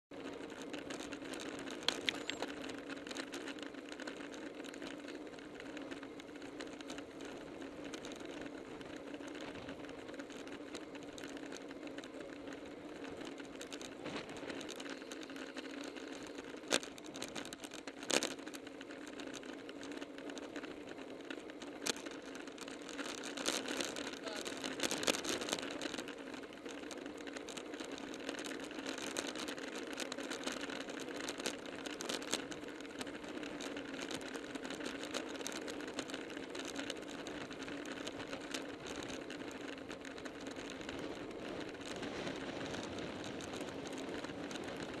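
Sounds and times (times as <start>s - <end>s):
wind: 0.0s - 45.0s
bike drivetrain whir: 0.1s - 45.0s
sharp clicks and rattles: 0.1s - 45.0s
tyres rolling on asphalt: 0.1s - 45.0s.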